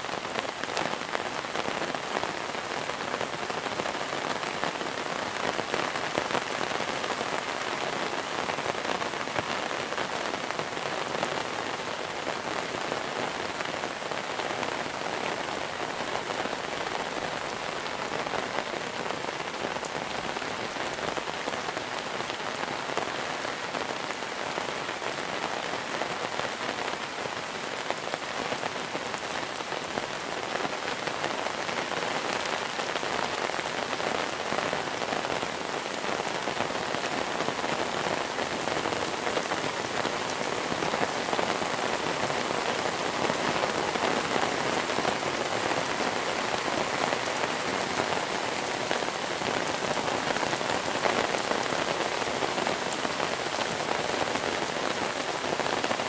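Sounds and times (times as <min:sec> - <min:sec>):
rain pattering on surfaces: 0:00.0 - 0:56.0.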